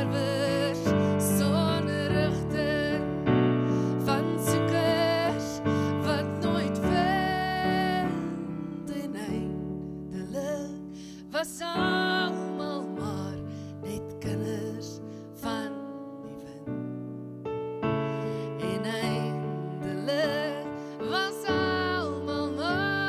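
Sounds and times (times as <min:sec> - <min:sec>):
woman singing with vibrato: 0:00.0 - 0:16.6, 0:18.4 - 0:23.0
electric piano chords: 0:00.0 - 0:23.0.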